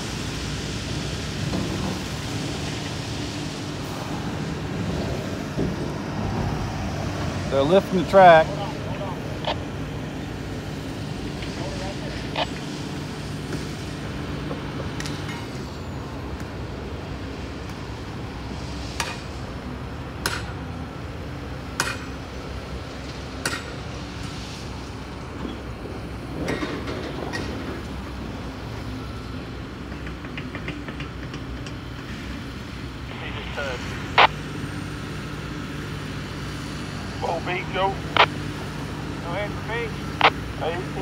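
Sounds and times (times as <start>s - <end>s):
diesel excavator engine running: 0.0s - 41.0s.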